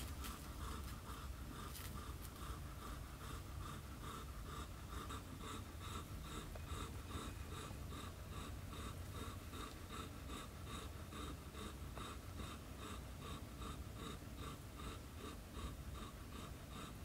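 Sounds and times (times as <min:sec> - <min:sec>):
kittens suckling: 0:00.0 - 0:17.0
low steady hum: 0:00.0 - 0:17.0.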